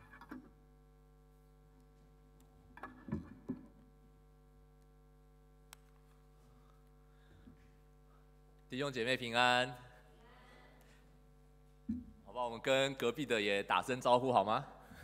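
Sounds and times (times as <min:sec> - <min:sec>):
electrical hum from sound system: 0:00.0 - 0:15.0.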